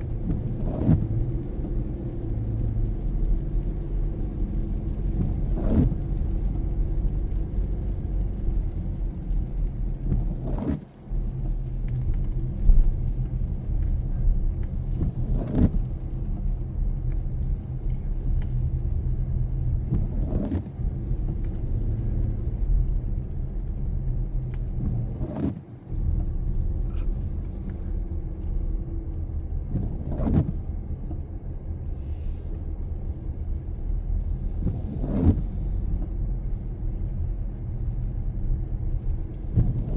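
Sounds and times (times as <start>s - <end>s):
car road rumble: 0.0s - 39.9s
windshield wipers sweeping: 0.0s - 39.9s.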